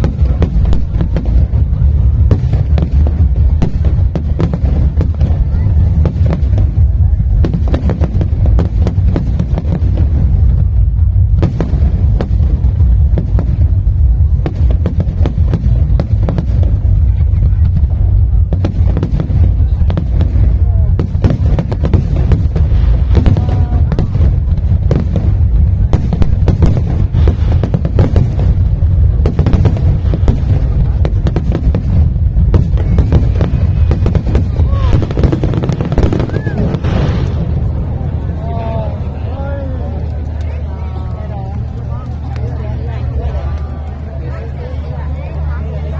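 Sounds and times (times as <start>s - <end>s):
deep rumble: 0.0s - 45.9s
fireworks cracking and banging: 0.0s - 45.9s.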